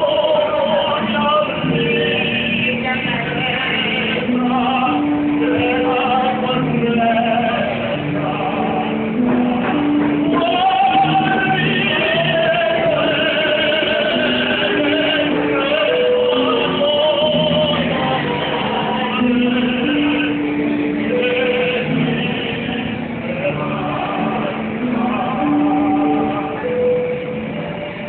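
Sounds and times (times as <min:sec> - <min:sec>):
operatic singing: 0:00.0 - 0:27.9
musical accompaniment: 0:00.0 - 0:28.0.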